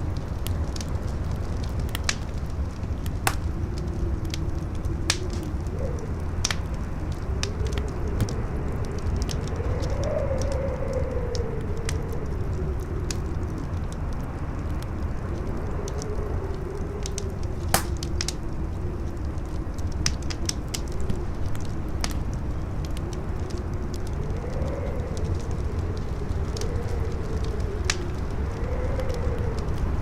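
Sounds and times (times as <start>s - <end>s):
campfire crackling: 0.0s - 30.0s
howling wind: 0.0s - 30.0s.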